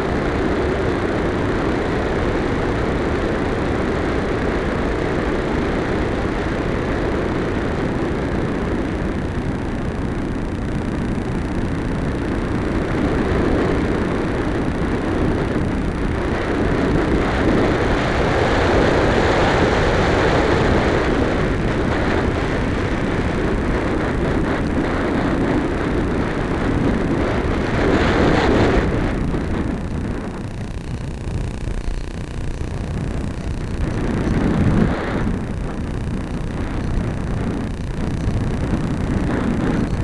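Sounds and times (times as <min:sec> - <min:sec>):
airflow rushing over camera: 0:00.0 - 0:40.0.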